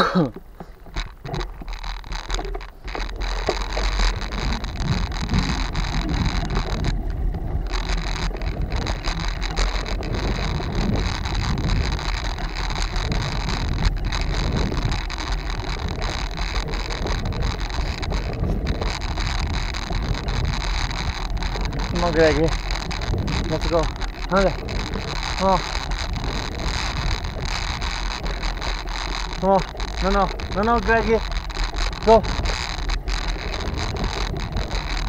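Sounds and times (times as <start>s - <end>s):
wind buffeting microphone: 0.0s - 35.0s
low rumble: 1.1s - 35.0s.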